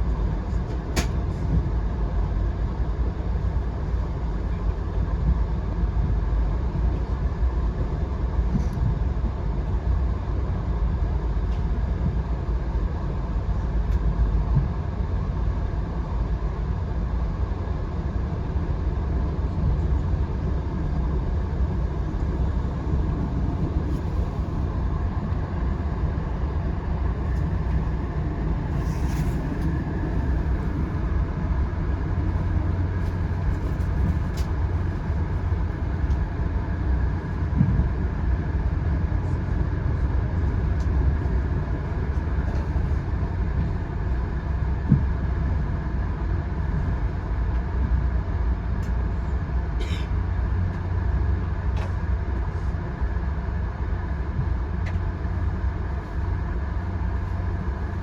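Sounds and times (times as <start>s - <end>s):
train rumbling from inside coach: 0.0s - 58.0s.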